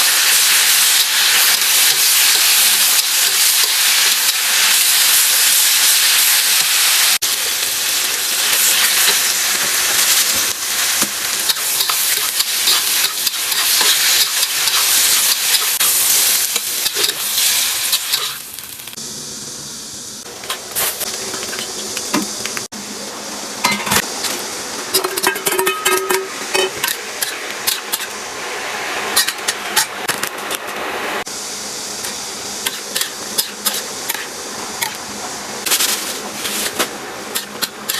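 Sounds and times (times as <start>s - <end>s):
food sizzling in a pan: 0.0s - 23.1s, 24.0s - 30.3s, 30.9s - 37.9s.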